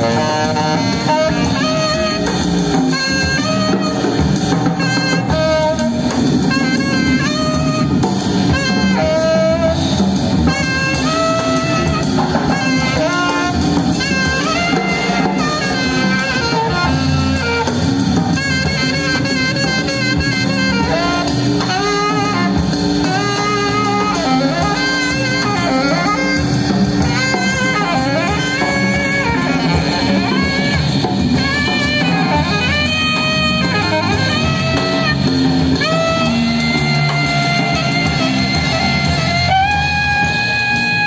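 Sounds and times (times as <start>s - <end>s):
drum kit with cymbals: 0.0s - 41.0s
electric bass guitar: 0.0s - 41.0s
saxophone melody: 0.0s - 41.0s.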